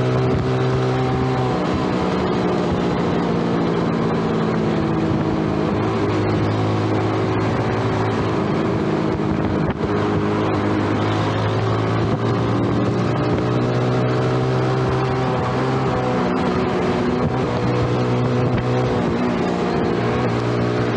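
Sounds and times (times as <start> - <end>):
motorcycle engine cruising: 0.0 - 20.9
wind and road noise: 0.0 - 20.9.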